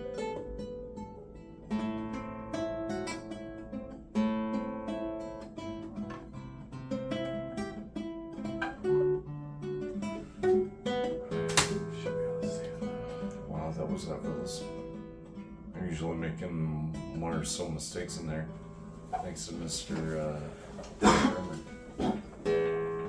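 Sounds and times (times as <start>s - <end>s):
acoustic guitar picking and strumming: 0.0s - 23.0s.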